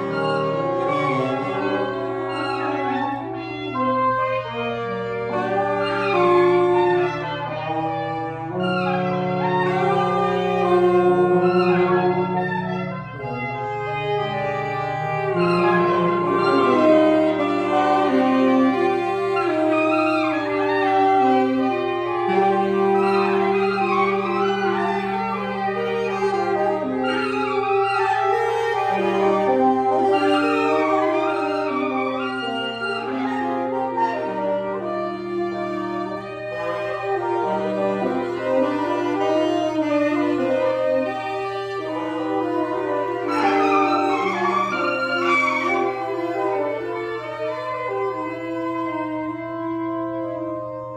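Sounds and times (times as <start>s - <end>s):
free jazz horns improvising: 0.0s - 50.9s.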